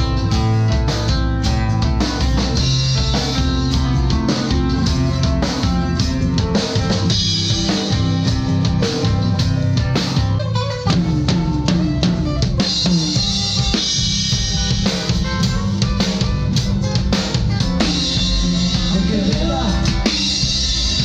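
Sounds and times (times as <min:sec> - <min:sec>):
bass drum and snare hits: 0:00.0 - 0:21.0
electric guitars: 0:00.0 - 0:21.0
live band playing: 0:00.0 - 0:21.0.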